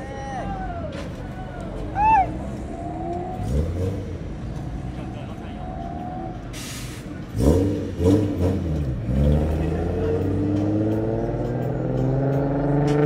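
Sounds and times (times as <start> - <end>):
car engine revving and accelerating: 2.2 - 13.0.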